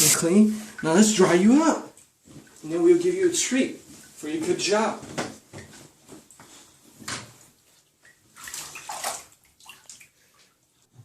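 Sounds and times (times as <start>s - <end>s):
water splashing in a bathtub: 0.0s - 11.0s.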